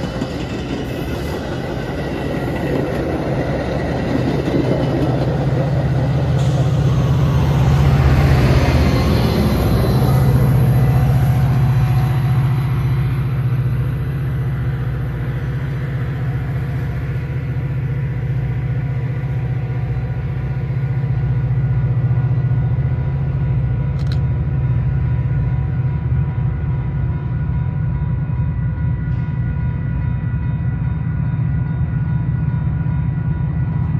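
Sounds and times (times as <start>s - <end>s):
diesel locomotive droning: 0.0s - 33.9s.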